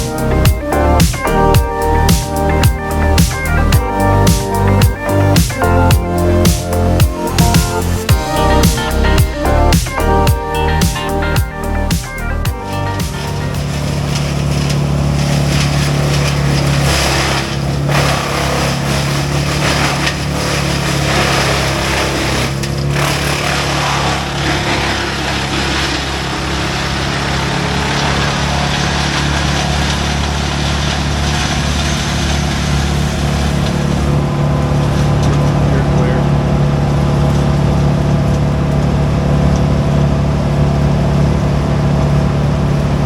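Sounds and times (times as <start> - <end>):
rushing noise: 0.0 - 37.1
diesel machinery humming: 0.0 - 43.0.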